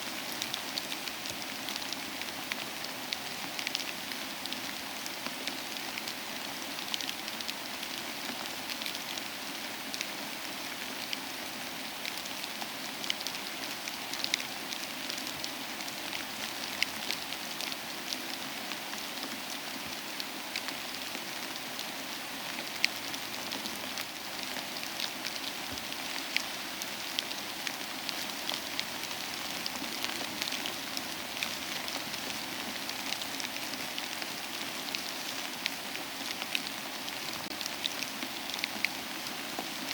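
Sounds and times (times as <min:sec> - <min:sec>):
soft rain: 0:00.0 - 0:39.9.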